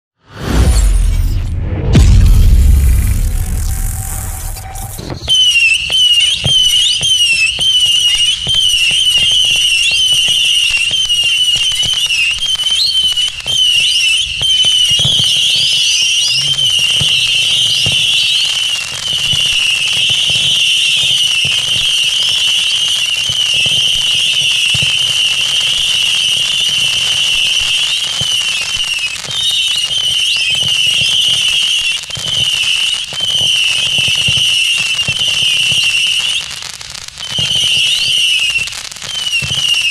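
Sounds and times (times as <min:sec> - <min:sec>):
fireworks launch pops: 0:00.3 - 0:39.9
fireworks whistling: 0:00.3 - 0:39.9.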